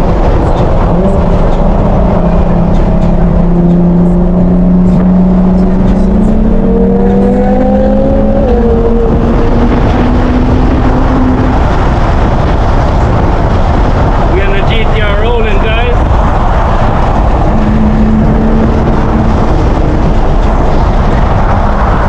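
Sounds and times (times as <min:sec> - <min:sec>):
car engine accelerating: 0:00.0 - 0:22.0
road and wind noise: 0:00.0 - 0:22.0.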